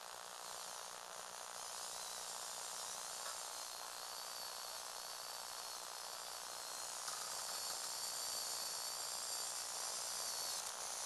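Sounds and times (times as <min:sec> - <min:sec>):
small electric motors whirring: 0:00.0 - 0:11.0.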